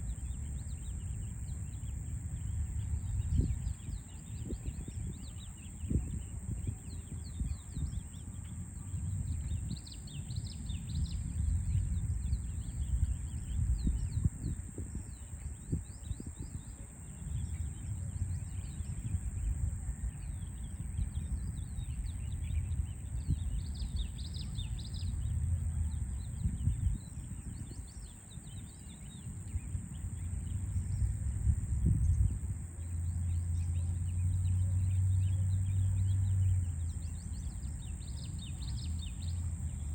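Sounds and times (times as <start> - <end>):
low city rumble: 0.0 - 39.9
songbirds chirping: 0.0 - 39.9.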